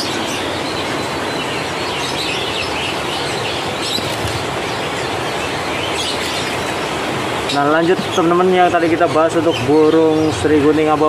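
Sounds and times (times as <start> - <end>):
small caged birds chirping: 0.0 - 10.9.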